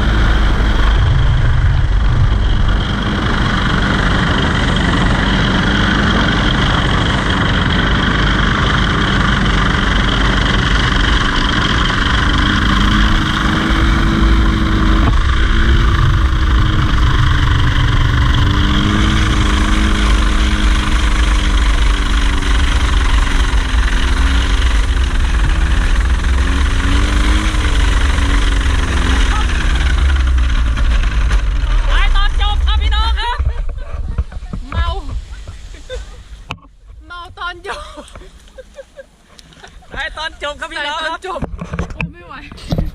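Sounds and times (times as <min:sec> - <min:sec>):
propeller aircraft engine roaring: 0:00.0 - 0:42.9.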